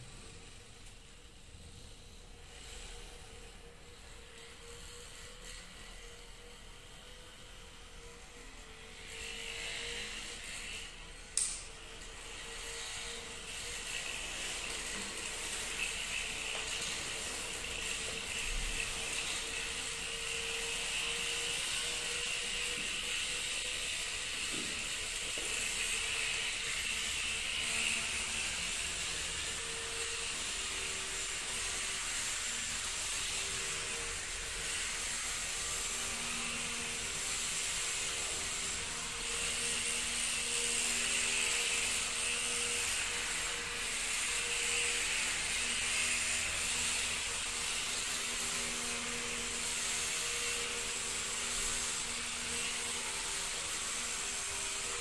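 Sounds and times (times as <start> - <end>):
high steady whine of spinning flywheel: 0.0 - 55.0.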